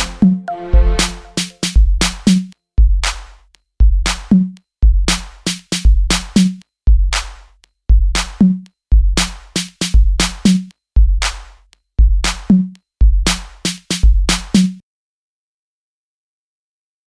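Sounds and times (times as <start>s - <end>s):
electronic drum machine beat: 0.0s - 14.8s.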